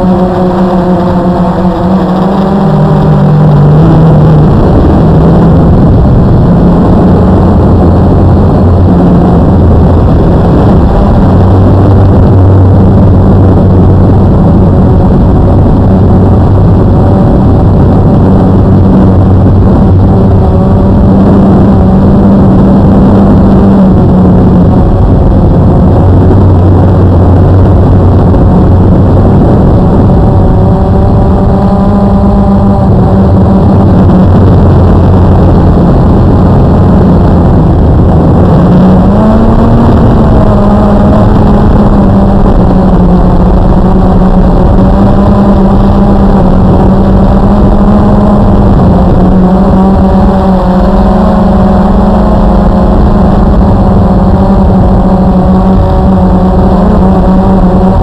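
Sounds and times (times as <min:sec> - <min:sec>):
quadcopter motors buzzing: 0:00.0 - 0:58.0.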